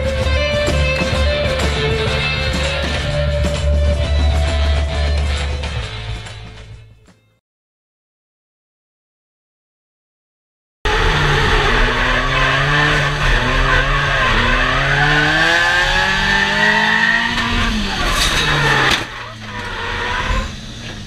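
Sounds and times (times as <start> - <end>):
car engine revving: 0.0 - 6.9, 10.9 - 21.0.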